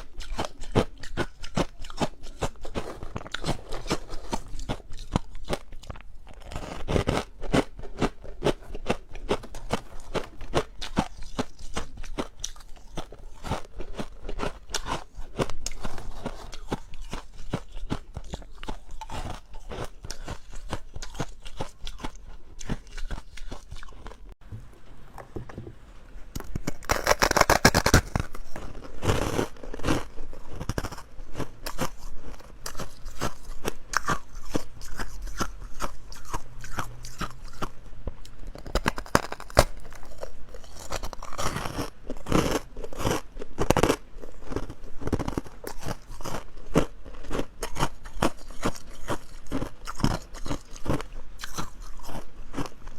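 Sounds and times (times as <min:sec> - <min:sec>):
ice crunching between teeth: 0:00.0 - 0:24.4, 0:26.4 - 0:52.9.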